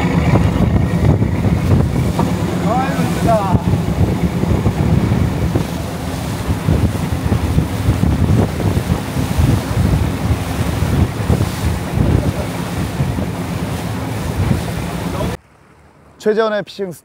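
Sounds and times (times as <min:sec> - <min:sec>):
wind buffeting microphone: 0:00.0 - 0:15.4
boat engine drone: 0:00.0 - 0:16.4
rush of boat wake: 0:00.0 - 0:16.8.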